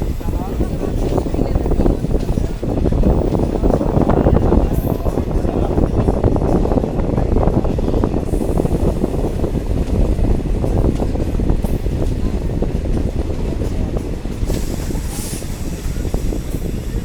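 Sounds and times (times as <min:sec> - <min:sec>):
train rumbling: 0:00.0 - 0:17.0
wheels clattering on rails: 0:00.0 - 0:17.0.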